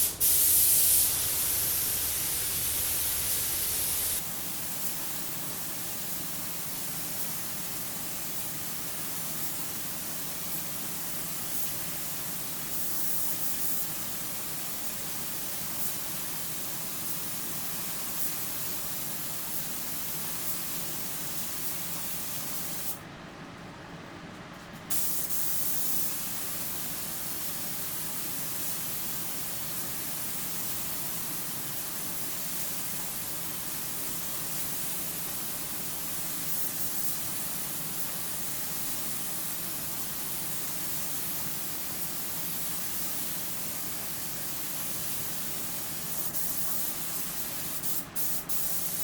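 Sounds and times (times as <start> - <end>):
paint spray gun hissing: 0.0 - 23.0, 24.9 - 49.0.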